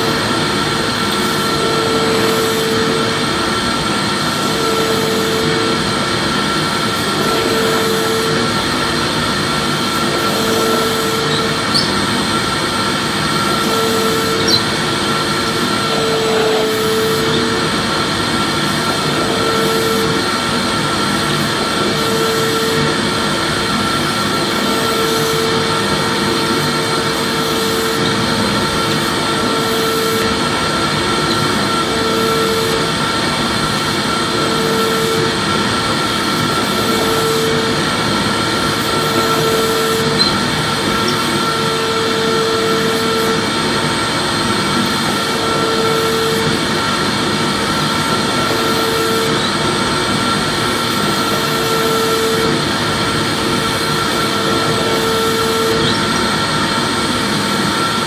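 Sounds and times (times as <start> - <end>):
pulsing hum: 0.0 - 57.1
vacuum cleaner running: 0.0 - 58.0.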